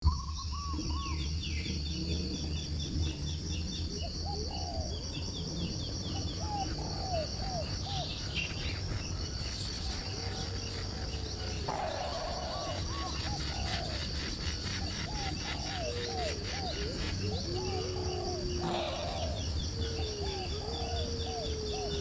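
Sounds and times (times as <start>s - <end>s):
birds chirping: 0.0s - 22.0s
insects trilling: 0.0s - 22.0s.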